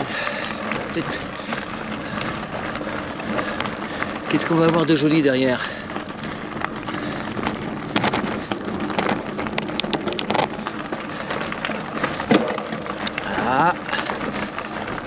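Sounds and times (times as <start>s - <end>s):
bicycle rattling: 0.0s - 15.0s
bicycle tyres on rough surface: 0.0s - 15.0s.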